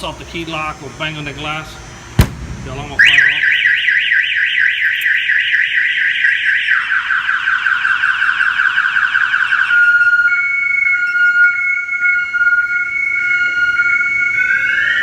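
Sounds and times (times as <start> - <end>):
higher alarm tone: 2.9 - 15.0
car alarm siren warbling: 3.0 - 15.0
steady alarm tone: 3.0 - 15.0.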